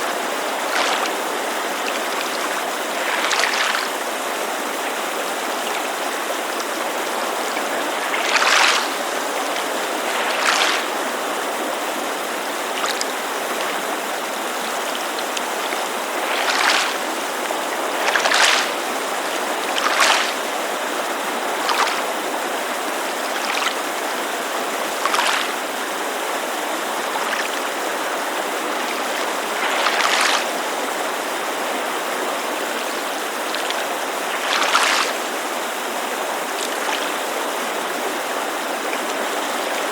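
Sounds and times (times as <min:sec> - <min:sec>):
mountain creek rushing: 0:00.0 - 0:39.9
small waves lapping at shore: 0:00.0 - 0:39.9.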